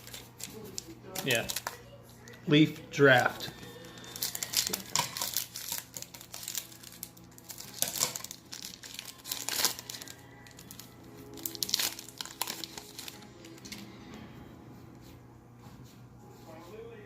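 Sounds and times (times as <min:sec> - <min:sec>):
foil wrapper crinkling and tearing: 0:00.0 - 0:13.8.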